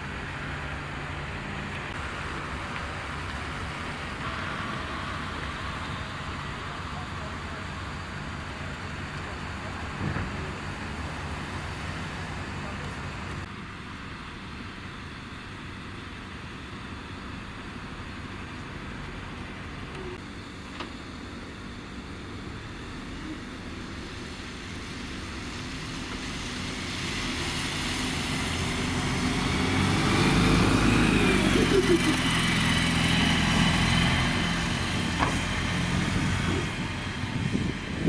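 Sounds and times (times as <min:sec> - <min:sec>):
bus approaching: 0:00.0 - 0:38.0
city bus engines running: 0:00.0 - 0:38.0.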